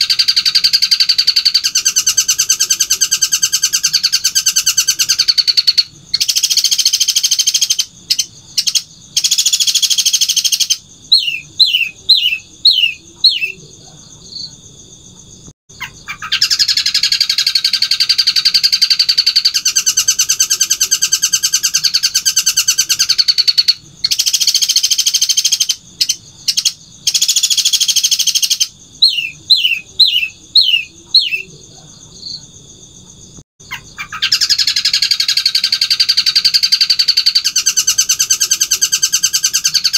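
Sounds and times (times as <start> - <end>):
bird chattering trills: 0.0 - 14.2, 15.7 - 32.4, 33.6 - 39.9.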